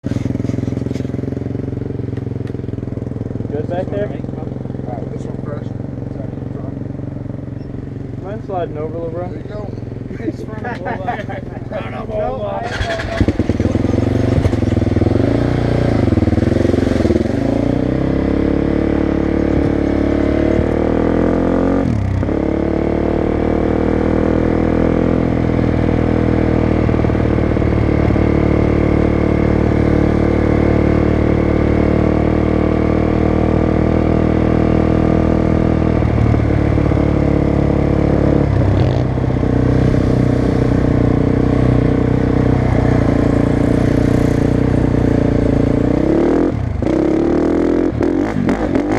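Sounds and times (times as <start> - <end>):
motocross engines running: 0.1 - 48.9.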